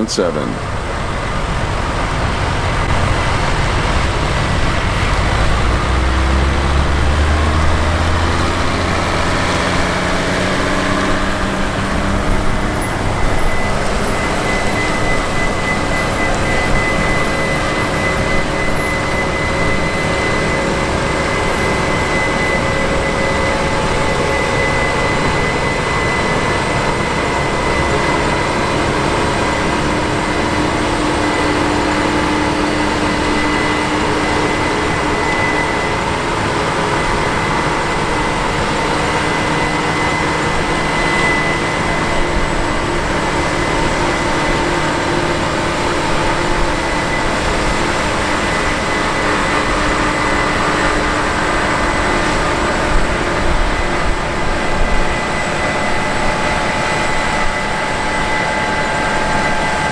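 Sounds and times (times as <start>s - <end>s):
combine harvester and tractor running: 0.0s - 59.9s.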